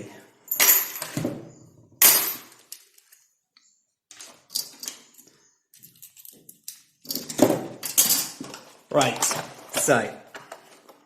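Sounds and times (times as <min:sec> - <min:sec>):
objects clattering on a workbench: 0:00.5 - 0:03.3, 0:04.1 - 0:11.0.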